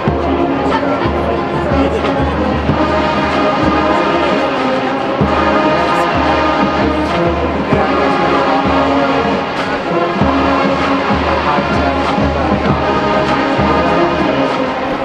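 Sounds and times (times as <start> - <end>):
brass section playing: 0.0 - 15.0
marching drums: 0.0 - 15.0.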